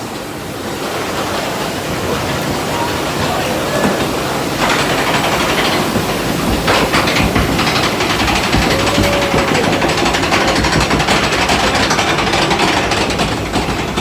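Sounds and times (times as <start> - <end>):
conveyor mechanical rumble and clatter: 0.0 - 14.0.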